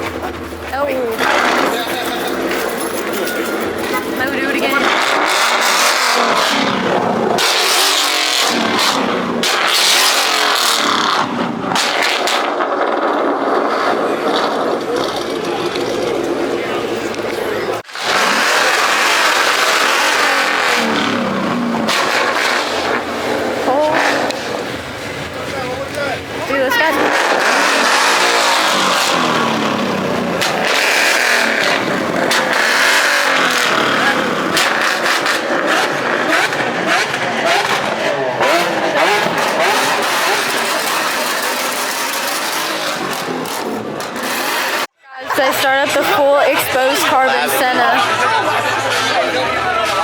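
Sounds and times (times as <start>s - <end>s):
car engine revving hard: 0.9s - 44.9s.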